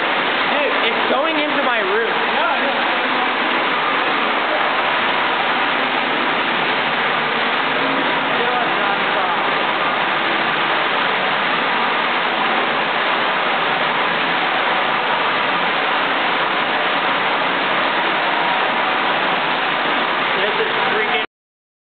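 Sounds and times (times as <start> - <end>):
water gushing onto tiled floor: 0.0 - 21.3.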